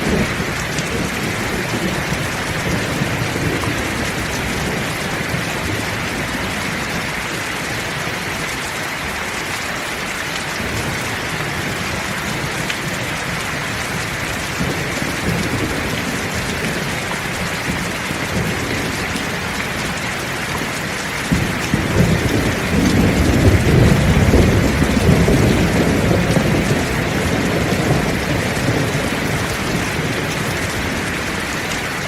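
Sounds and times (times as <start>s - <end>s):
low rumble of thunder: 0.0s - 7.1s, 10.6s - 31.5s
heavy rain hissing: 0.0s - 32.0s.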